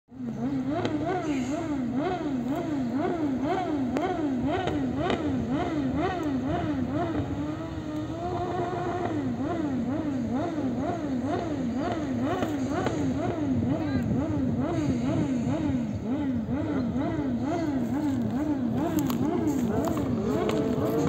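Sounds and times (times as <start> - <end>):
motorbike engine revving: 0.1 - 21.0.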